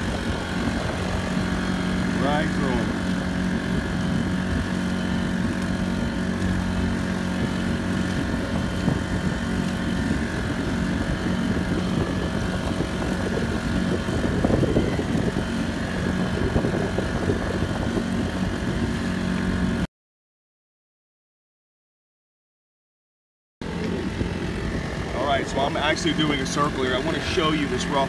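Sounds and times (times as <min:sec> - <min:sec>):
waves splashing against hulls: 0:00.0 - 0:19.8, 0:23.6 - 0:28.0
small boat engine running: 0:00.0 - 0:19.9, 0:23.6 - 0:28.0.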